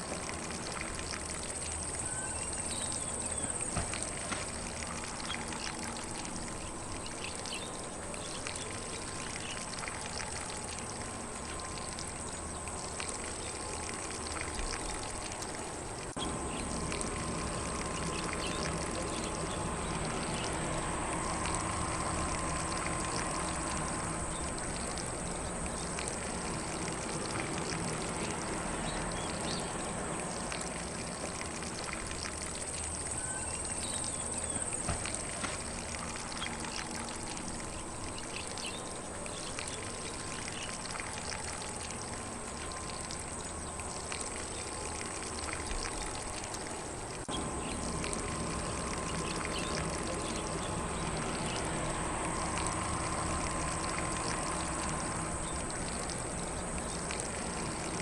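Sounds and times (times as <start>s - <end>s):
lawn sprinkler spraying water: 0.0s - 58.0s
distant birdsong: 0.4s - 58.0s.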